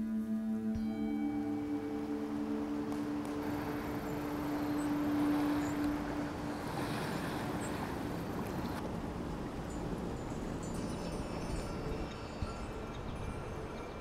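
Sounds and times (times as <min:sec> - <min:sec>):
sustained ringing tone: 0:00.0 - 0:08.4, 0:09.5 - 0:14.0
wind: 0:00.0 - 0:14.0
rushing water: 0:00.8 - 0:14.0.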